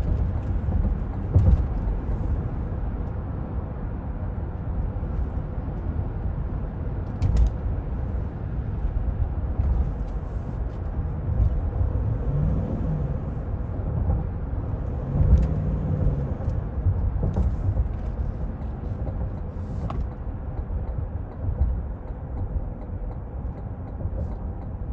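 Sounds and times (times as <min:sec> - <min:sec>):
engine and road rumble in car: 0:00.0 - 0:24.9.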